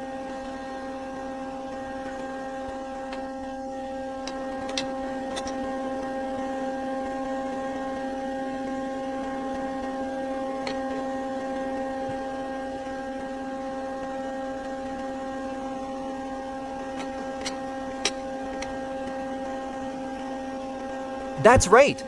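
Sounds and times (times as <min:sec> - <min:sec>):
electric stove humming: 0:00.0 - 0:21.4.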